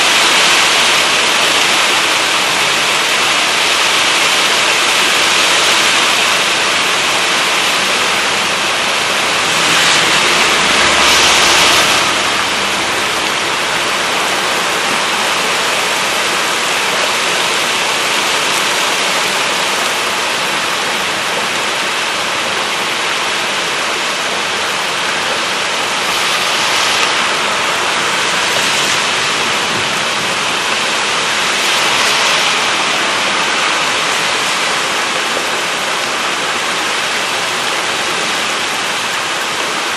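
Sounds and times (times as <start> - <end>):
gusty wind: 0.0 - 39.9
heavy rain pouring: 0.0 - 39.9.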